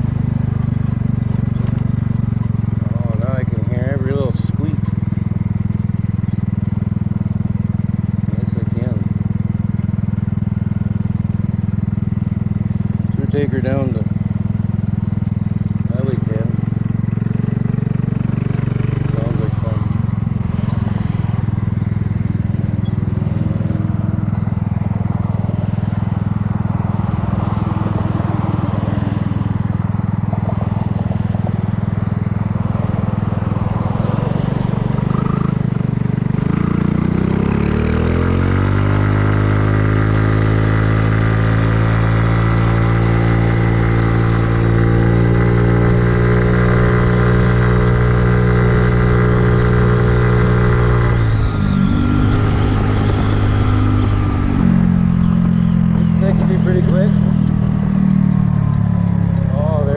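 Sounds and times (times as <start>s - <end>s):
scooter engine accelerating: 0.0s - 59.9s.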